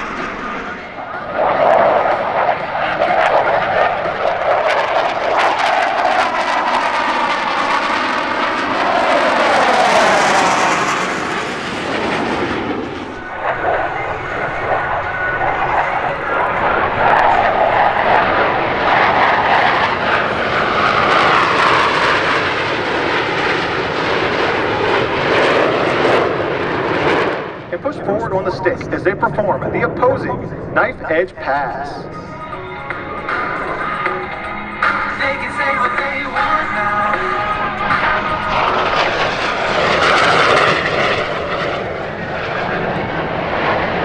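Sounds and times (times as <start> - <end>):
jet roar: 0.0 - 44.0.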